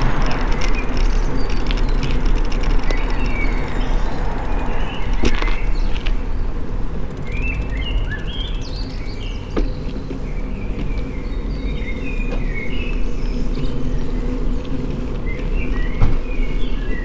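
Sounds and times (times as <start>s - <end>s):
small birds chirping: 0.0s - 17.0s
wind and road rumble: 0.0s - 17.0s.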